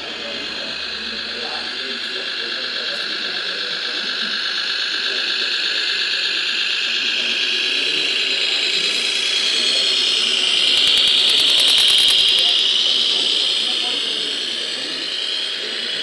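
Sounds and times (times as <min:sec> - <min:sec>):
toy truck motor whine: 0:00.0 - 0:16.0.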